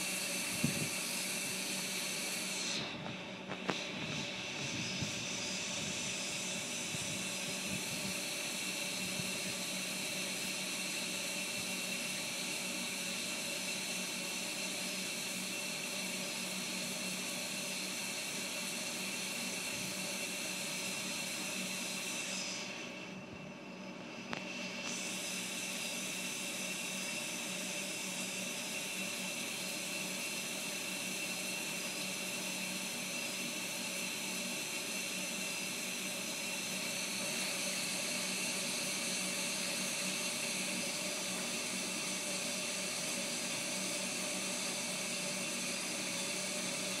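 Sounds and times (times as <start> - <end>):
faint hum tones: 0.0 - 47.0
steady whirring hiss: 0.0 - 47.0.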